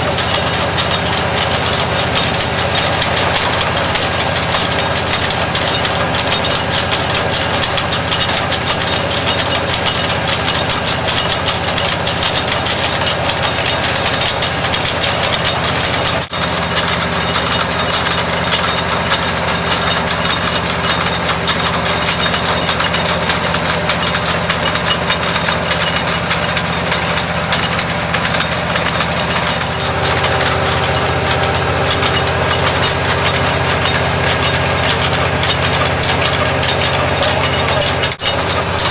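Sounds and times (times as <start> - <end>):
drilling rig engine drone: 0.0 - 38.9.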